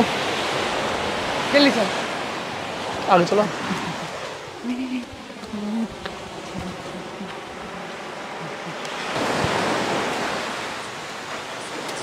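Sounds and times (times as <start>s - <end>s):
surf washing up shore: 0.0s - 12.0s.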